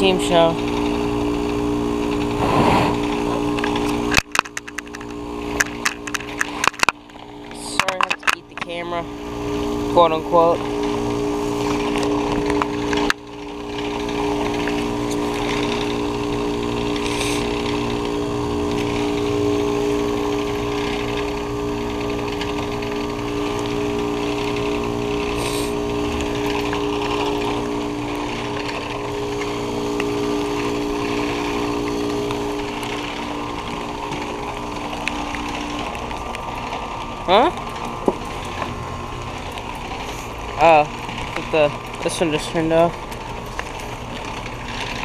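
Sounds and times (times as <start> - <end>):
fan rush and hiss: 0.0 - 45.0
heat pump compressor hum: 0.0 - 45.0.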